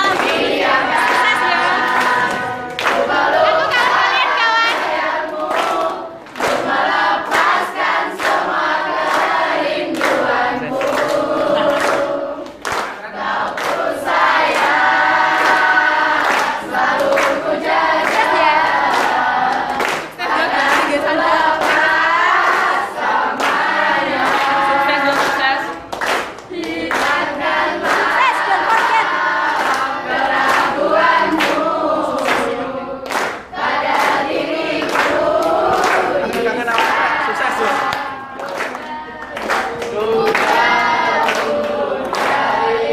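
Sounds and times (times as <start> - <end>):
hand claps: 0.0 - 42.9
students singing in chorus: 0.0 - 42.9.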